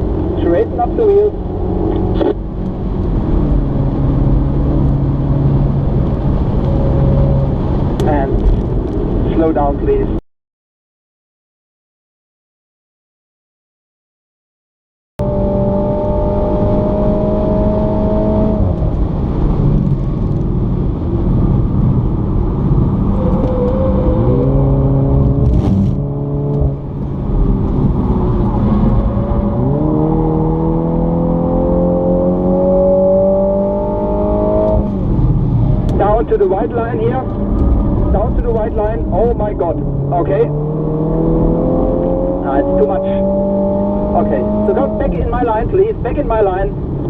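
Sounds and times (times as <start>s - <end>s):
car engine accelerating: 0.0s - 9.9s, 15.2s - 47.0s.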